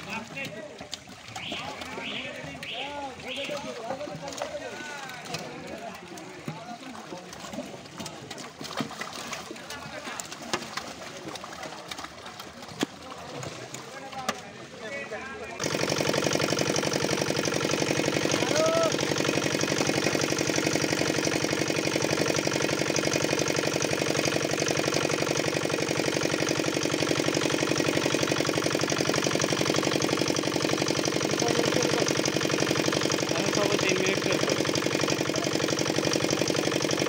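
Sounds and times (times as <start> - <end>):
engine running steadily: 0.0 - 14.8, 15.4 - 37.0.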